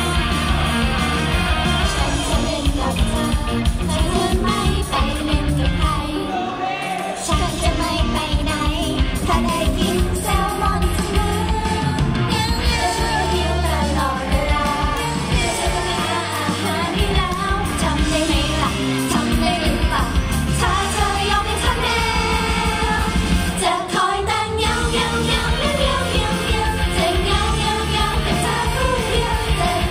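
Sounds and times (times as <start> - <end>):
amplified pop music: 0.0 - 29.9
women singing into microphones: 1.9 - 6.3, 7.2 - 29.9.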